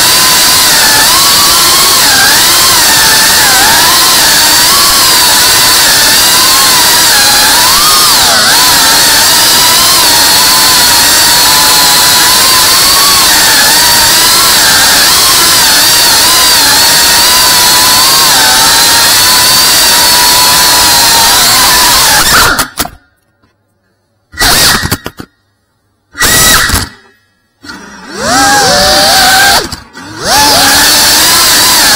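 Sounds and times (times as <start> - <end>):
drone propellers whining: 0.0 - 23.0, 24.3 - 25.3, 26.1 - 31.9.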